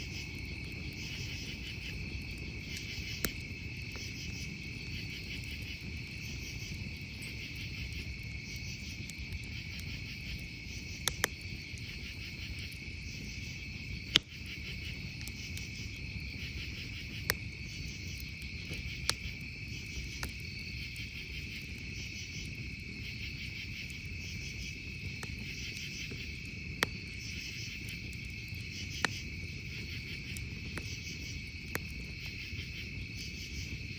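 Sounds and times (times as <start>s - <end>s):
campfire crackling and popping: 0.0s - 33.9s
crickets chirping: 0.0s - 33.9s.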